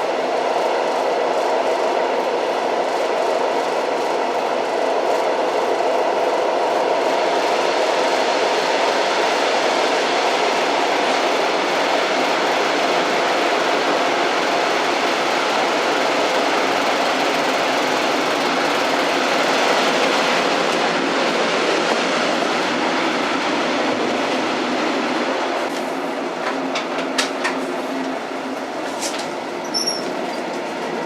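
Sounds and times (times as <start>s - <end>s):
train wheels on track: 0.0s - 31.0s.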